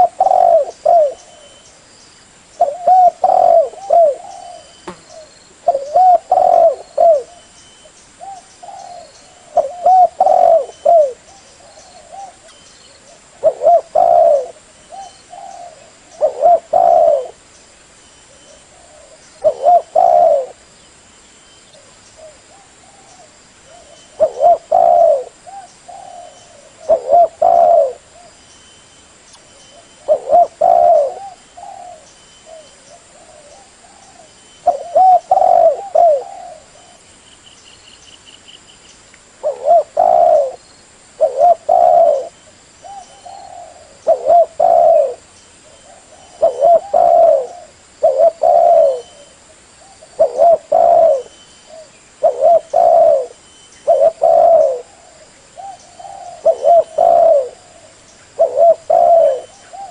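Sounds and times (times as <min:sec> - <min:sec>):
dove cooing: 0:00.0 - 0:01.6, 0:02.6 - 0:07.5, 0:08.2 - 0:17.4, 0:18.3 - 0:20.6, 0:21.8 - 0:28.4, 0:29.7 - 0:37.1, 0:39.4 - 0:40.6, 0:41.2 - 0:59.9.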